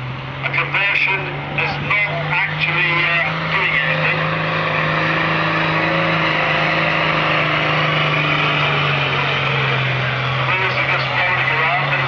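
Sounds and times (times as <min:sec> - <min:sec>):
tractor engine droning under load: 0:00.0 - 0:12.0.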